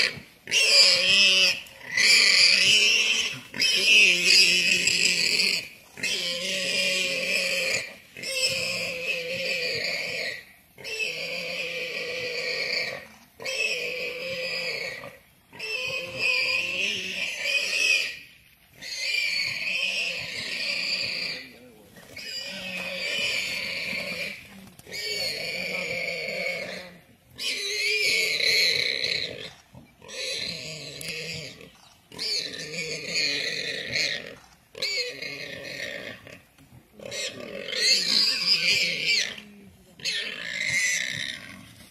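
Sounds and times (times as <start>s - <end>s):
warthog squealing: 0.0s - 18.2s, 18.8s - 36.4s, 37.0s - 41.9s.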